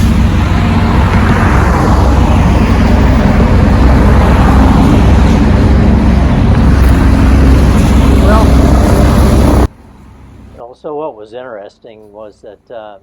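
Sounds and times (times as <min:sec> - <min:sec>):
vehicle passing by: 0:00.0 - 0:10.6
low engine rumble: 0:00.0 - 0:13.0.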